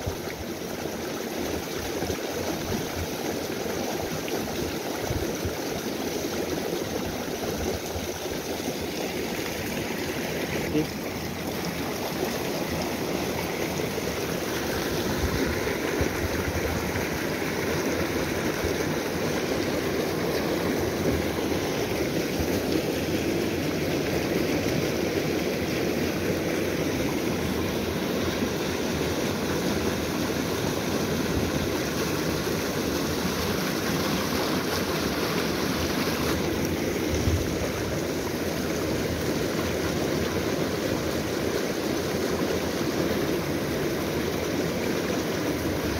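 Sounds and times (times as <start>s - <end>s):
creek water running over rocks: 0.0s - 45.9s.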